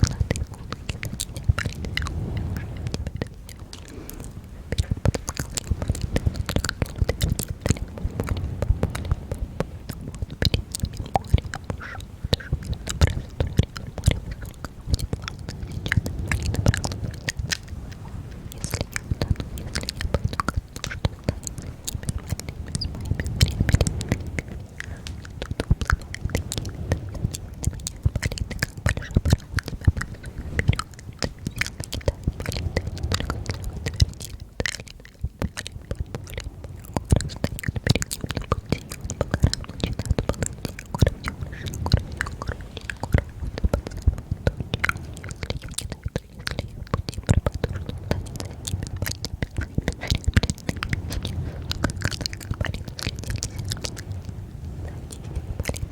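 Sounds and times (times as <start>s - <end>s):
wet mouth clicks and smacks: 0.0s - 55.9s.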